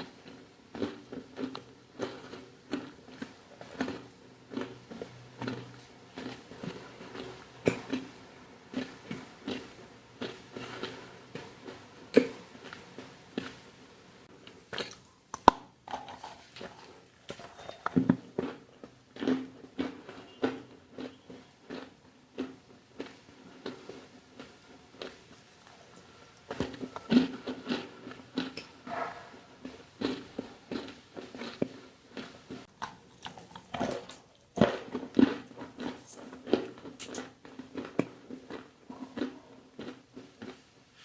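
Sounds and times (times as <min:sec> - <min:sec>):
crunchy food chewing: 0:00.0 - 0:13.6, 0:14.4 - 0:40.7.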